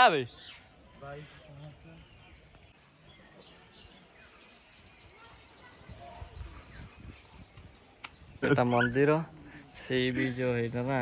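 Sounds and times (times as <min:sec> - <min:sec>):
bird chirps: 0:00.1 - 0:09.3.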